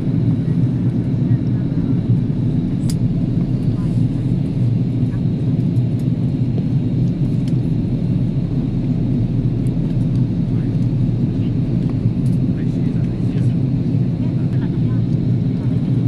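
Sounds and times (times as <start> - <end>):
airplane cabin drone: 0.0 - 16.0.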